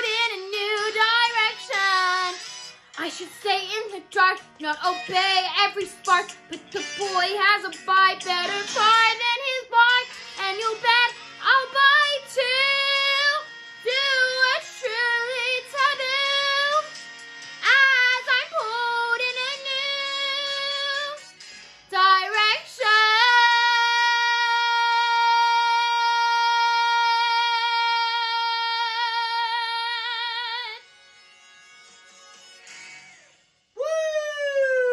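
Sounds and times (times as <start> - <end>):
girl singing with vibrato: 0.0 - 2.4, 3.0 - 16.9, 17.6 - 21.2, 21.9 - 30.8.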